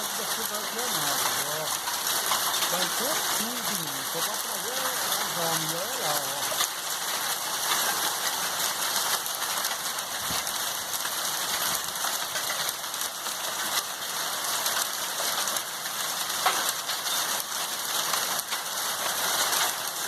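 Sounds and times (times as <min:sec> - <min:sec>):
hailstones ticking: 0:00.0 - 0:20.0
heavy rain hissing: 0:00.0 - 0:20.0.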